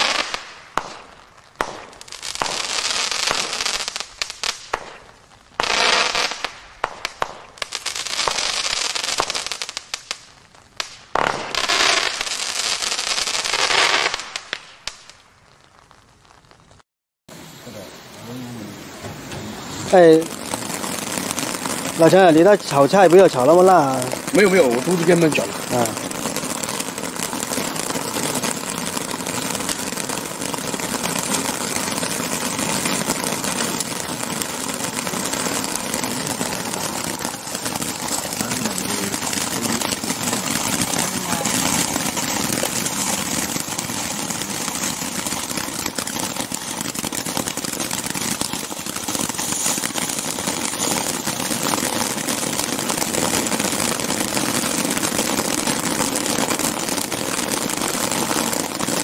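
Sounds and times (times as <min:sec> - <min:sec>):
firework fountains hissing: 0:00.0 - 0:16.6, 0:17.3 - 0:59.0.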